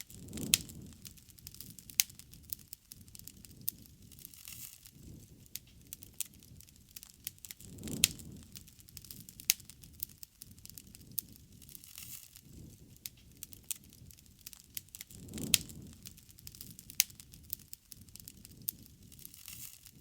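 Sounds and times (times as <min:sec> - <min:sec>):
bonfire crackling and popping: 0:00.0 - 0:20.0
low rush of burning: 0:00.0 - 0:20.0.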